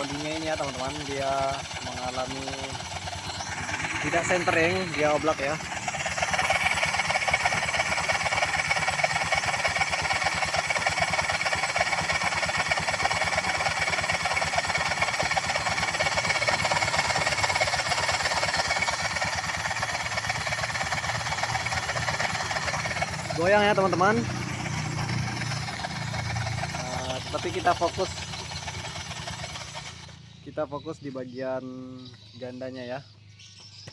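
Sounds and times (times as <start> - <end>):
rough rattle from transmission housing: 0.0 - 30.2
scooter engine idling: 0.0 - 33.9.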